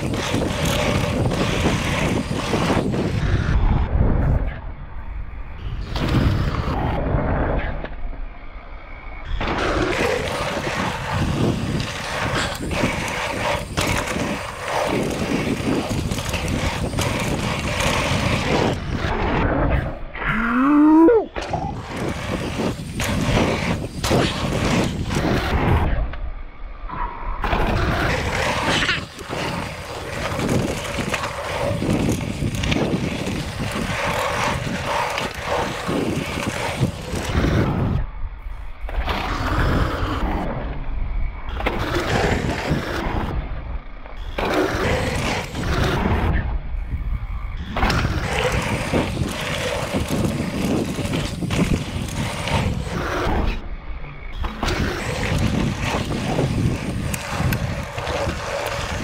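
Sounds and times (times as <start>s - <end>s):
bike rattling: 0.0s - 3.5s, 9.2s - 25.9s, 27.4s - 40.5s, 44.1s - 59.0s
bike tyres crunching over dirt: 0.0s - 4.5s, 9.1s - 26.1s, 27.4s - 40.8s, 41.4s - 59.0s
wind buffeting microphone: 0.0s - 7.8s, 9.2s - 26.1s, 26.9s - 59.0s.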